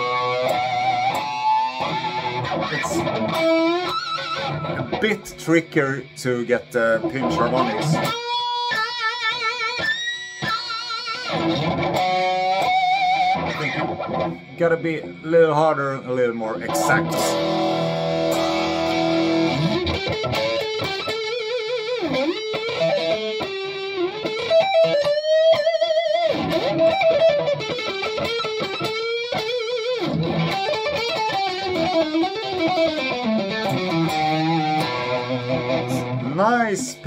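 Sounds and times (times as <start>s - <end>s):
electric guitar lead with vibrato: 0.0s - 37.0s.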